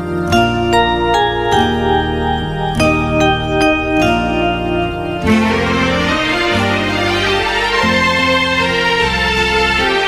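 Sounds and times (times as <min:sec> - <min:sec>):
slow chords with sustained bass: 0:00.0 - 0:10.0.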